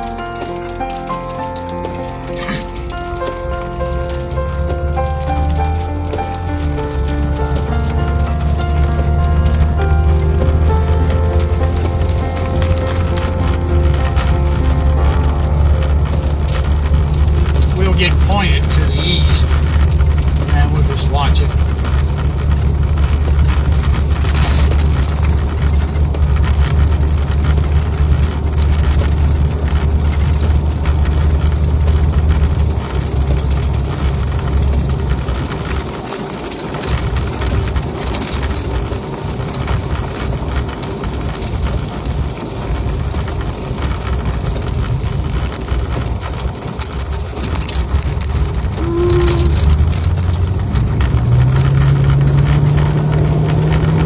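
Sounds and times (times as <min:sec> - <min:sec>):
rain on vehicle: 0:00.0 - 0:54.0
vehicle engine humming: 0:00.0 - 0:54.0
wind on vehicle: 0:00.0 - 0:54.0.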